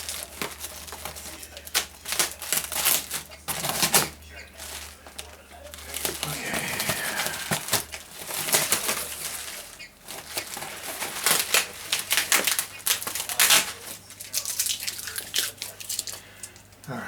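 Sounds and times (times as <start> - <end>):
paper and cardboard rustling: 0.0 - 16.6.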